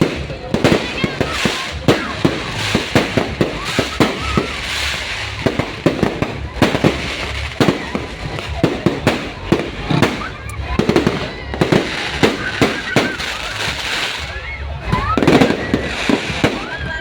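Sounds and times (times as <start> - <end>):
fireworks bangs and pops: 0.0 - 17.0
fireworks crackle: 0.0 - 17.0.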